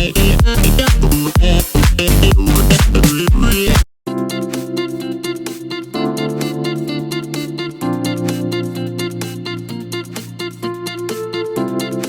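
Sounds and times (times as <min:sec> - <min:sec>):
bright instrumental music: 0:00.0 - 0:12.0.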